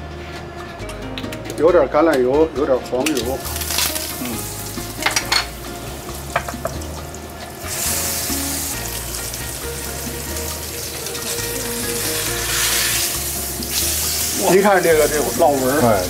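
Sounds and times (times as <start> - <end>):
steak searing: 3.0 - 16.0
oil sizzling in a pan: 3.1 - 16.0.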